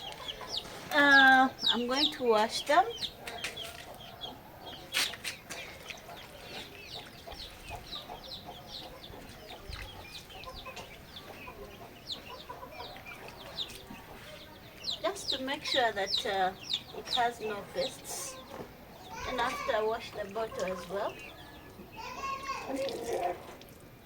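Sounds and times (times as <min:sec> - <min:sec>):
chickens chirping: 0:00.0 - 0:24.0.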